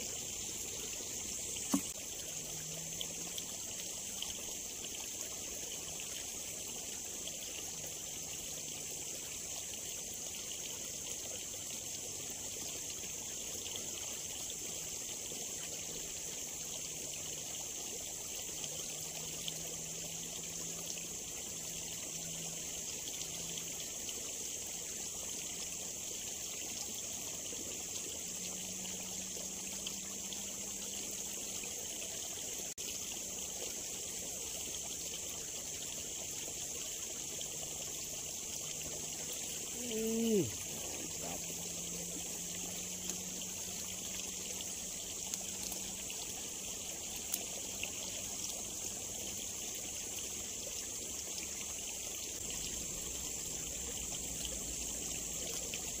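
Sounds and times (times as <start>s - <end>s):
water trickling in ditch: 0.0s - 56.0s.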